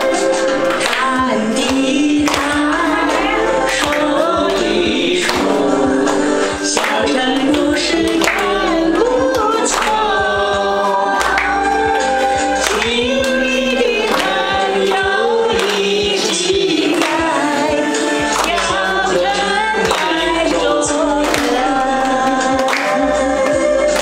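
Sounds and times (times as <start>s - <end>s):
hands clapping in time: 0.0s - 24.0s
man singing into a microphone: 0.8s - 11.6s, 12.5s - 23.9s.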